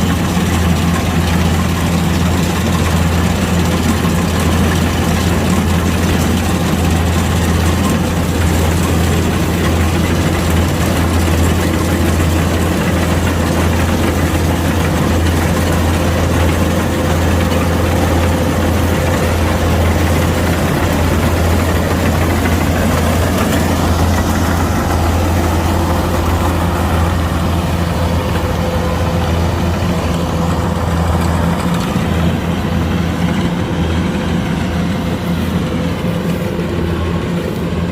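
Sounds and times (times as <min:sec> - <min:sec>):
diesel engine droning: 0:00.0 - 0:37.9
machinery noise: 0:00.0 - 0:37.9.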